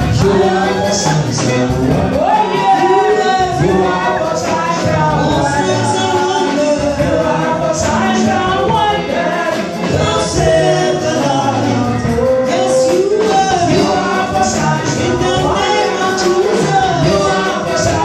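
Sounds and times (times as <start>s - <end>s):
instrumental accompaniment: 0.0s - 18.0s
voices singing gospel: 0.0s - 18.0s.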